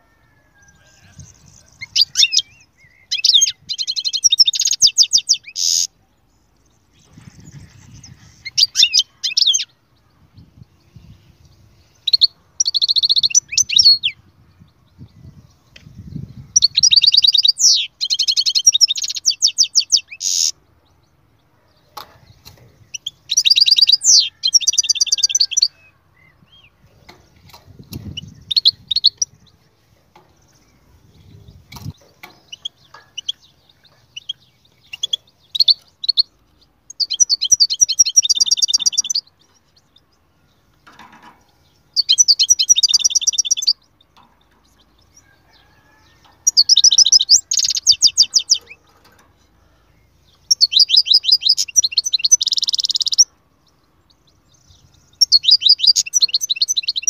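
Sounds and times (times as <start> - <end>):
goldfinch twittering song: 0.6 - 5.9, 6.7 - 20.6, 22.0 - 57.0.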